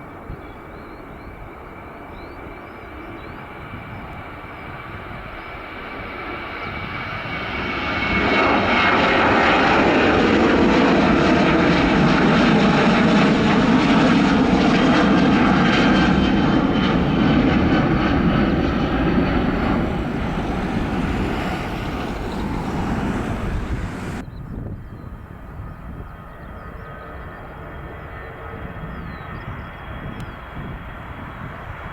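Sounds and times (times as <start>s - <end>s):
airliner engines passing: 0.0s - 31.9s.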